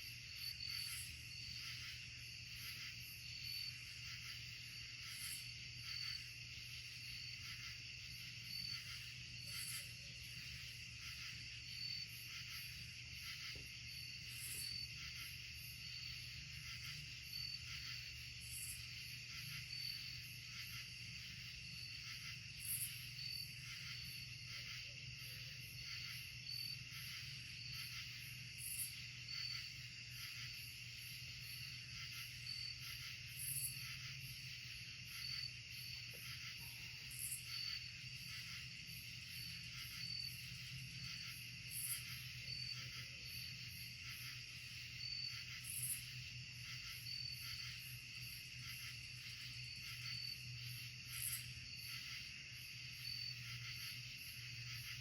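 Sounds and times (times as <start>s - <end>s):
crickets and katydids trilling: 0.0s - 55.0s
loud high insect call: 0.0s - 55.0s.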